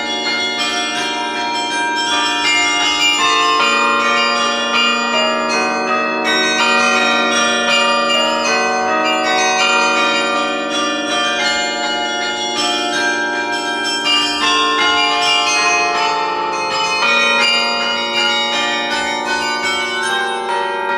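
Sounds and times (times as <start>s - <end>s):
carillon bells playing melody: 0.0s - 20.9s
low bell sounding: 0.0s - 20.9s.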